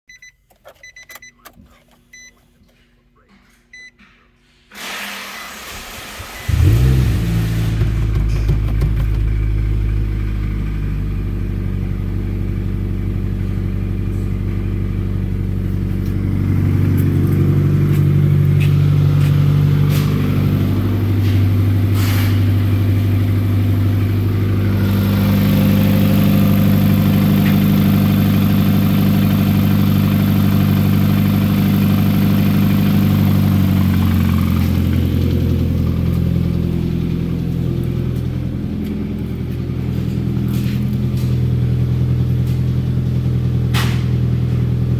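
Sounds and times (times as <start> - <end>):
car engine idling and revving: 4.8 - 44.9.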